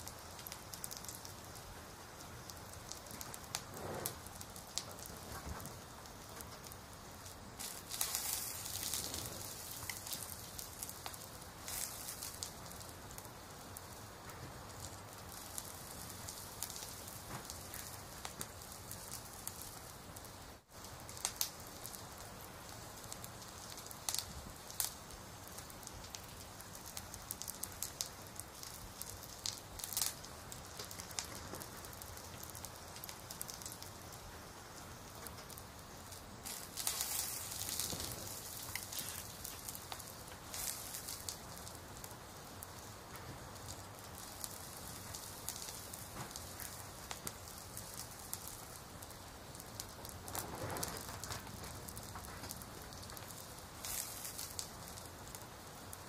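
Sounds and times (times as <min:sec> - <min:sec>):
fire crackles and pops: 0:00.0 - 0:56.0
soft hiss of rain: 0:00.0 - 0:56.0.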